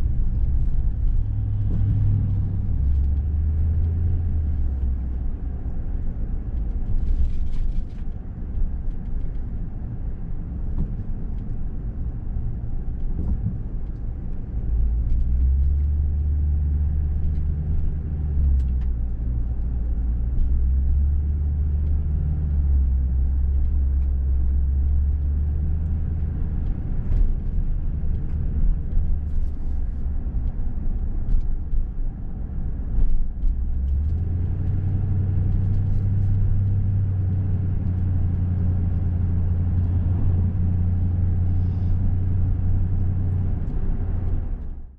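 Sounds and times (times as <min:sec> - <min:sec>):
motor vehicle running: 0:00.0 - 0:44.9.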